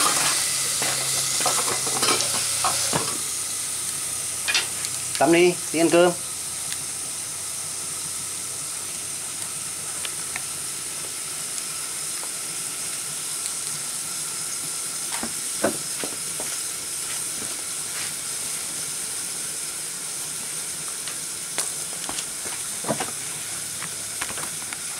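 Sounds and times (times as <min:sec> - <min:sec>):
burning wood crackling and popping: 0:00.0 - 0:24.9
wood fire hissing: 0:00.0 - 0:24.9.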